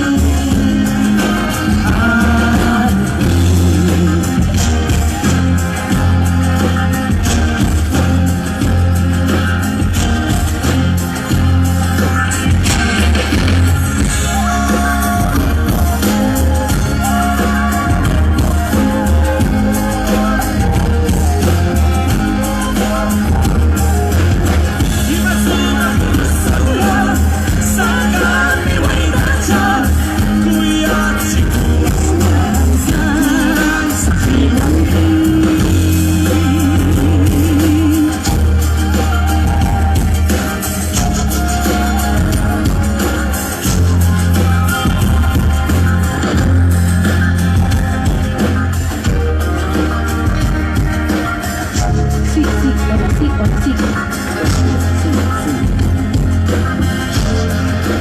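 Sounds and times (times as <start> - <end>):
amplified live band playing: 0.0 - 58.0
guitar: 0.0 - 58.0
percussion: 0.0 - 58.0
steady bass: 0.0 - 58.0.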